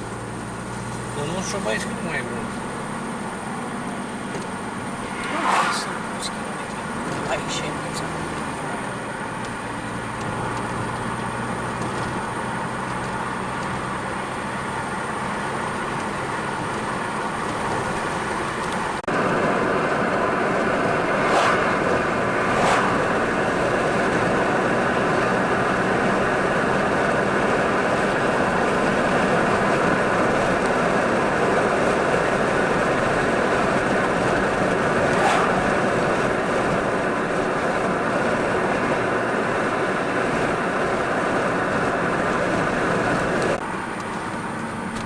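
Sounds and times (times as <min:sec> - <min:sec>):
car road and tyre noise: 0:00.0 - 0:45.0.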